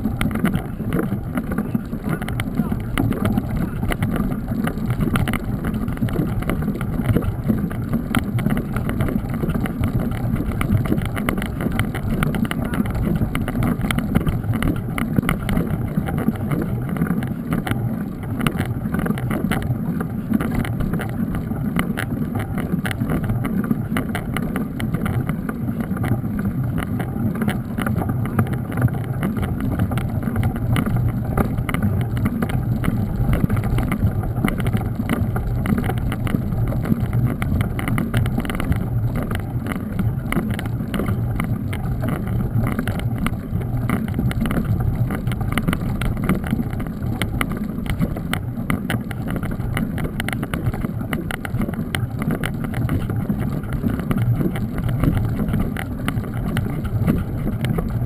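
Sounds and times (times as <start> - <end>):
bike rattles and clicks: 0.0 - 58.0
bike tyre and wind rumble: 0.0 - 58.0.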